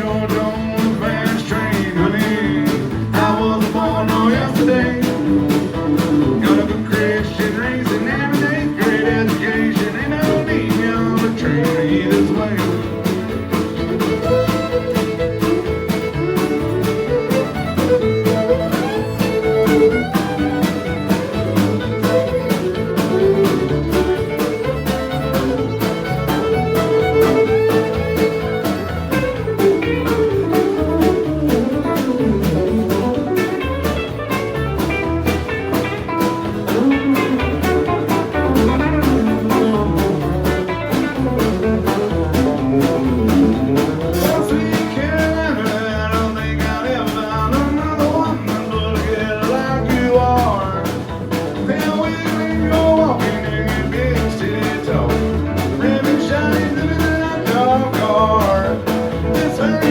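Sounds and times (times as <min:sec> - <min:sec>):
country band playing: 0:00.0 - 0:59.9
fiddle lead: 0:00.0 - 0:59.9.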